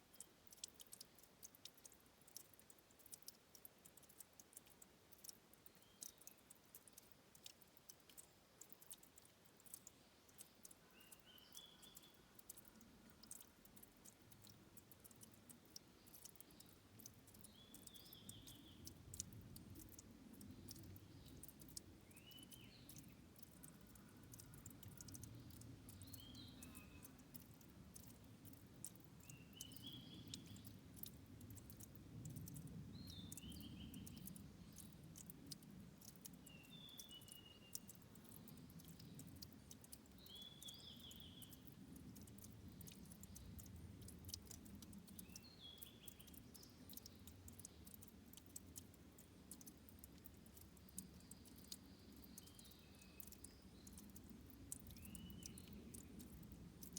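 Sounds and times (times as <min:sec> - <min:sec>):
stream trickling: 0:00.0 - 0:56.9
water drips and clicks: 0:00.0 - 0:56.9.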